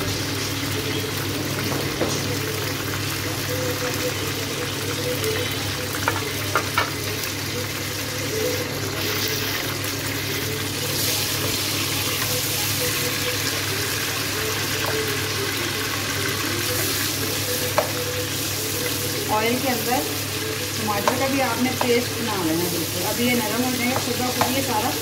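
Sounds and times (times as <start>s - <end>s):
tomatoes sizzling in hot oil: 0.0s - 25.0s.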